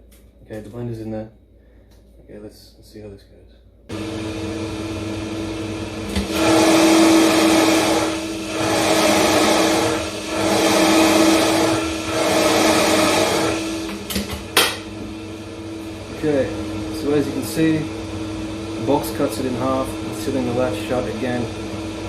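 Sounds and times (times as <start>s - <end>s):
blender crushing ice: 3.9s - 22.0s.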